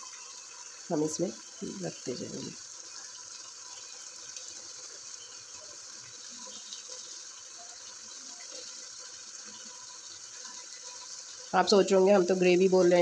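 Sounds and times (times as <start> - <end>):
food cooking on gas burner hiss: 0.0 - 13.0.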